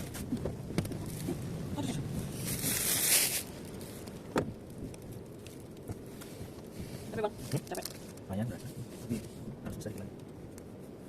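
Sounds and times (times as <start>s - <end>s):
car rumble: 0.0s - 11.0s.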